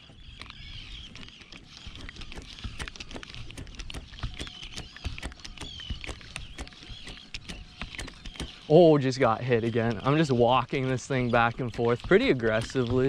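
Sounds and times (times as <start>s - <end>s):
seabirds calling: 0.0s - 13.0s.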